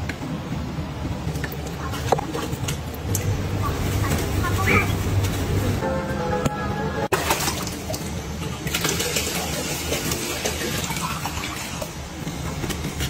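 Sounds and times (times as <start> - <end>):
water pouring and splashing: 1.0 - 5.8, 7.1 - 13.0.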